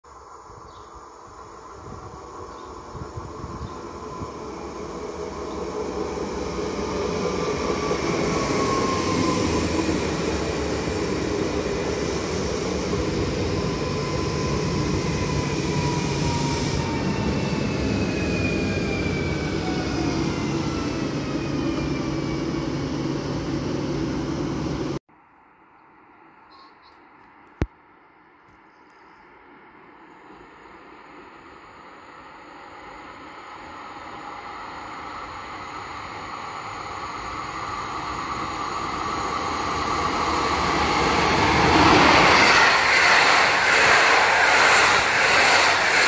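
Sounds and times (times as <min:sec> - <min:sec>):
electric train passing: 0:00.2 - 0:25.0, 0:29.4 - 0:46.0.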